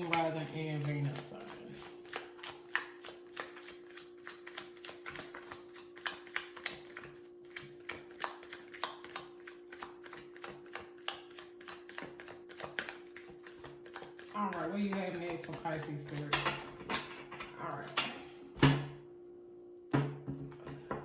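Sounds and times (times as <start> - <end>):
cards being shuffled: 0.0 - 17.1
faint steady hum: 0.0 - 21.0.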